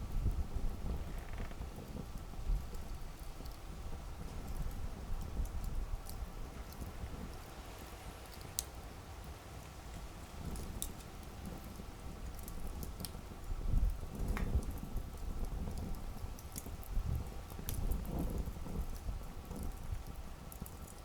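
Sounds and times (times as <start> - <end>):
campfire flames rumbling: 0.0 - 21.0
wood crackling and popping: 0.1 - 8.8, 9.9 - 21.0.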